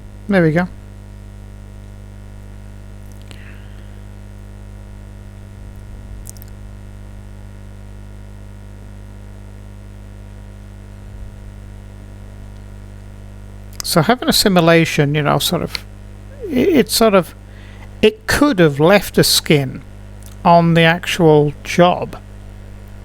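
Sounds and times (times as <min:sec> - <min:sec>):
low electrical mains hum: 0:00.0 - 0:23.0.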